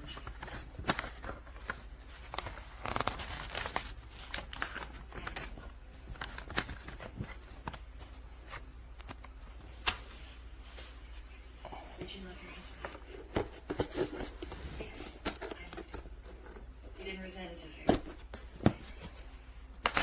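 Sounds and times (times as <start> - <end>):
packaging rustling and tearing: 0.0 - 11.3, 12.0 - 17.2, 17.9 - 20.0.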